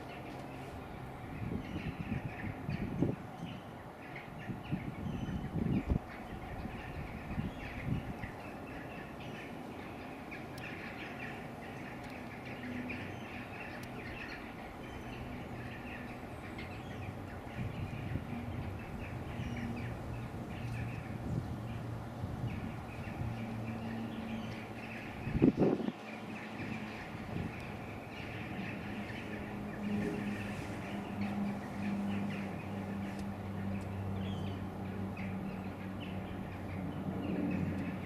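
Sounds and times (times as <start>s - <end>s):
small birds singing: 0.0s - 38.0s
steady low hum: 0.0s - 38.0s.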